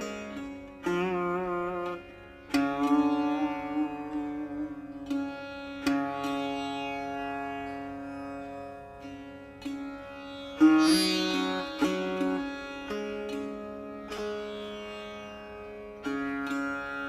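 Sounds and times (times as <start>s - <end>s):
long-necked lute plucked notes: 0.0s - 17.0s.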